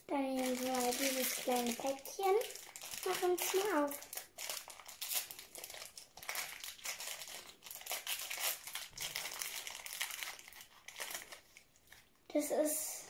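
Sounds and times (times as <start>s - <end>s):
plastic wrapper crinkling: 0.2s - 12.2s.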